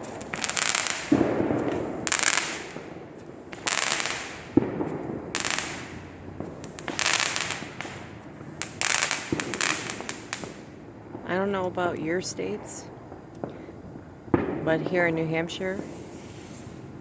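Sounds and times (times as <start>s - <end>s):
firework bang: 0.0s - 11.4s, 12.5s - 15.2s
fireworks crackling: 0.0s - 17.0s.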